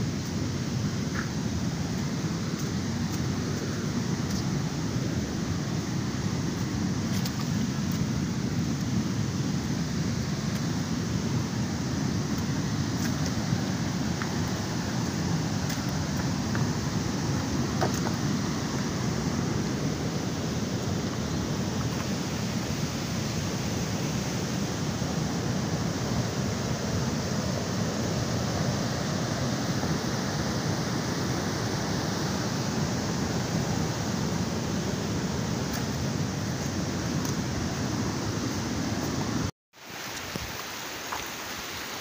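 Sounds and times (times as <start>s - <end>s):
floodwater rushing: 0.0s - 42.0s.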